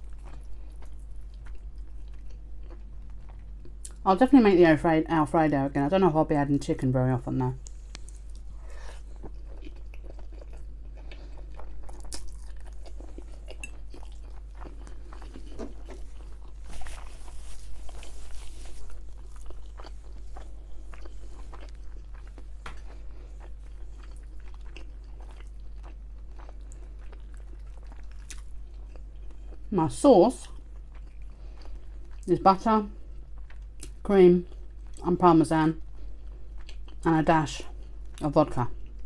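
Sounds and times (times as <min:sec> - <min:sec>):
person chewing food: 0:00.0 - 0:04.0, 0:07.6 - 0:29.7, 0:30.4 - 0:32.3, 0:32.9 - 0:35.0, 0:35.8 - 0:37.0
steady low hum: 0:00.0 - 0:39.0.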